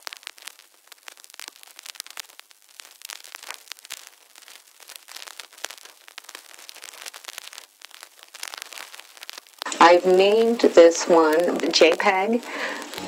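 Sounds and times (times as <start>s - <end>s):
vinyl crackling and popping: 0.0s - 13.0s.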